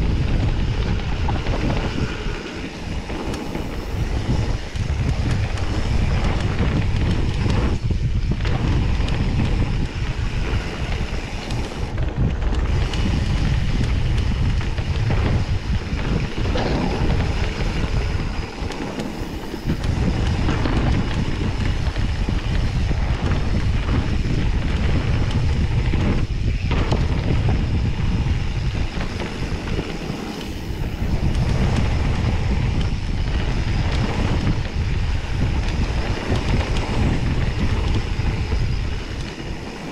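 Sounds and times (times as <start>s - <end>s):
bike tyres rumbling on dirt: 0.0s - 39.9s
wind buffeting microphone: 0.0s - 39.9s.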